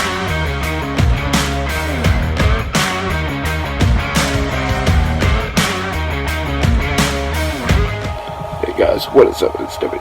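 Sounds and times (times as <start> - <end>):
rock music: 0.0 - 9.6.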